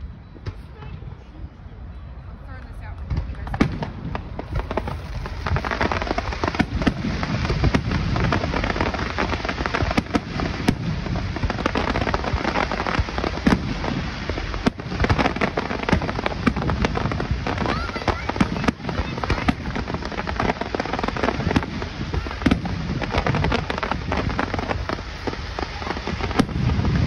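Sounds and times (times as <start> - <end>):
fireworks sharp bangs: 0.0 - 1.4, 2.5 - 27.0
fireworks crackling: 0.0 - 27.0.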